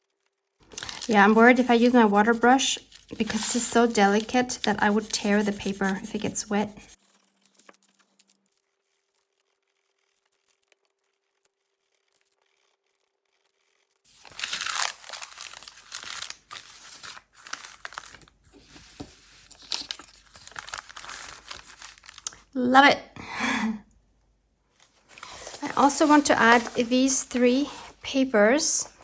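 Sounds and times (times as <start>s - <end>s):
paper rubbing and rustling: 0.0s - 22.3s, 24.8s - 29.0s.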